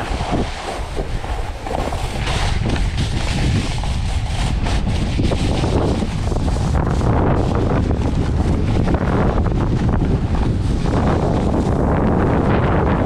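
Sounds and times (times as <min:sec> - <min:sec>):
snowboard sliding over snow: 0:00.0 - 0:13.0
wind rushing over microphone: 0:00.0 - 0:13.0.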